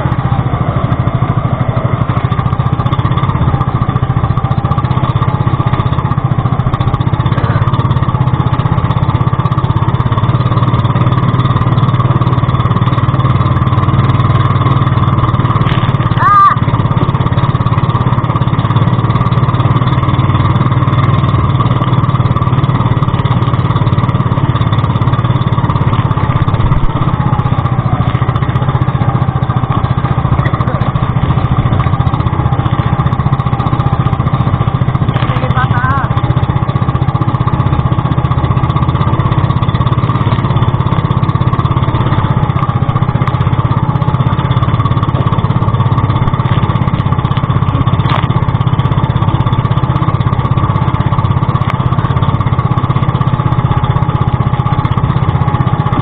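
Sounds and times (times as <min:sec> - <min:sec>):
small boat engine droning: 0:00.0 - 0:56.0.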